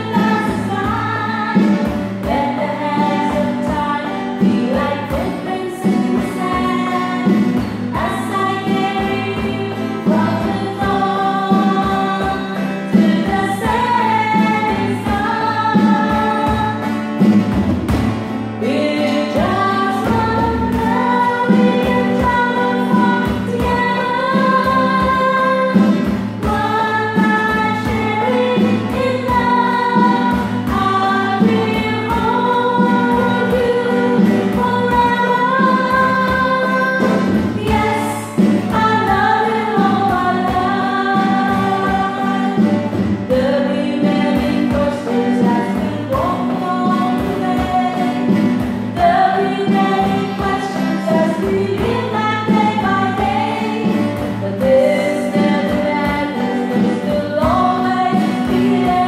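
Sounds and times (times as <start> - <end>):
girl singing: 0.0 - 17.1, 18.6 - 59.0
electronic drum beat: 0.0 - 59.0
strummed acoustic guitar: 0.0 - 59.0.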